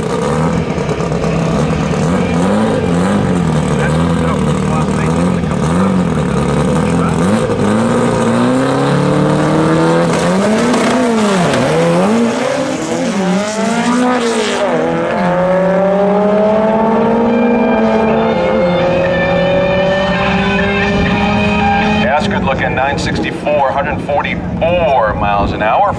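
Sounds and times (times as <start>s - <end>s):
drag car engine revving: 0.0s - 25.9s.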